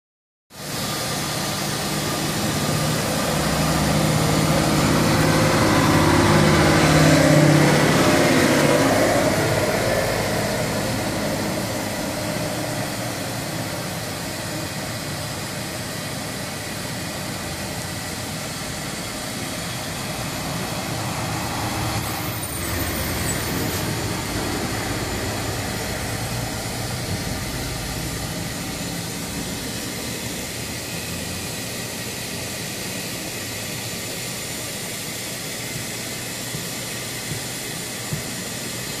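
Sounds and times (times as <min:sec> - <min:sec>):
machine hiss over low hum: 0:00.6 - 0:39.0.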